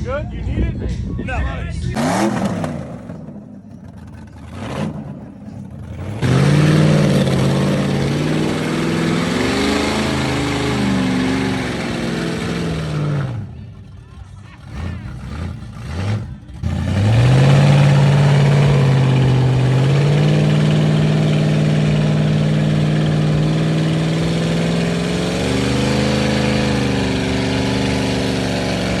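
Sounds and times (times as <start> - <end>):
truck engine revving hard: 1.9 - 29.0.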